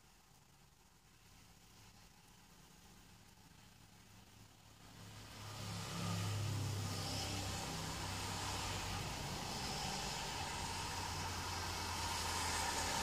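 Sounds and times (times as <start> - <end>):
rain: 0.0 - 13.0
traffic hum: 0.0 - 13.0
wet tyres hissing: 1.7 - 13.0.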